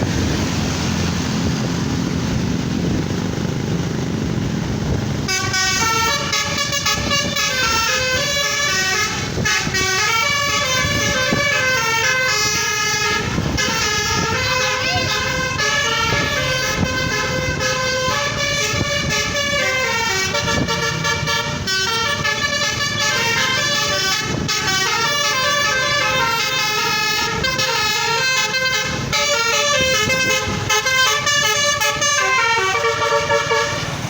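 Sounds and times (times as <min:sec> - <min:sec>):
low engine rumble: 0:00.0 - 0:34.0
musical air horn tune: 0:05.3 - 0:34.0.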